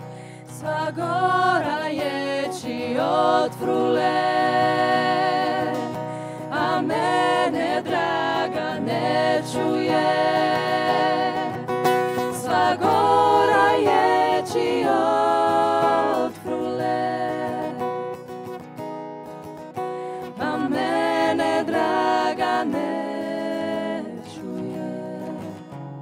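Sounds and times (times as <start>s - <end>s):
women singing in harmony: 0.2s - 18.3s, 20.1s - 25.8s.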